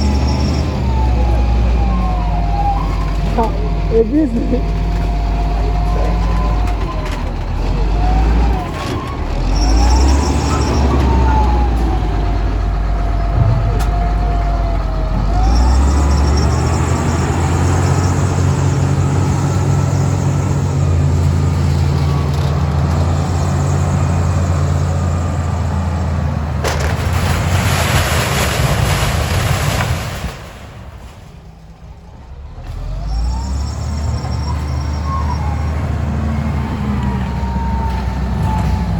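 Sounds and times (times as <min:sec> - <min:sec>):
diesel engine rumble: 0:00.0 - 0:38.9.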